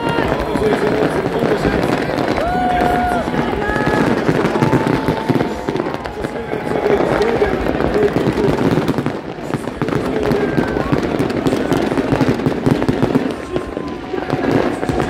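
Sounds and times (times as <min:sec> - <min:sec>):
fireworks popping and crackling: 0:00.0 - 0:15.0
people's voices: 0:00.0 - 0:15.0.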